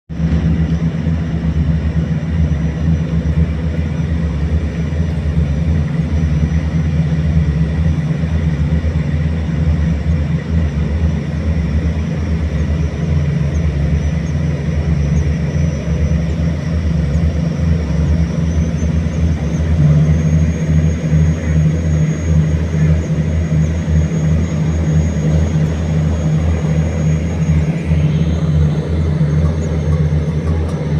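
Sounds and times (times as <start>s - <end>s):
boat engine running: 0.1s - 30.9s.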